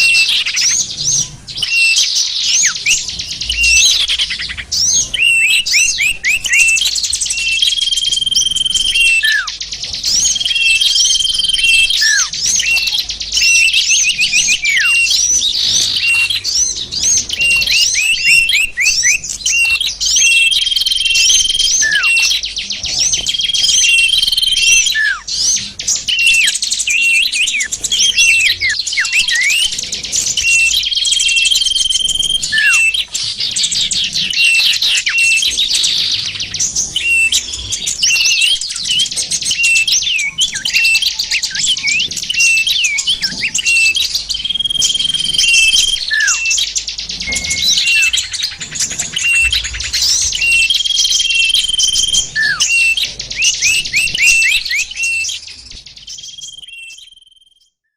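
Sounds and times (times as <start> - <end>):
songbirds chirping: 0.0 - 57.8.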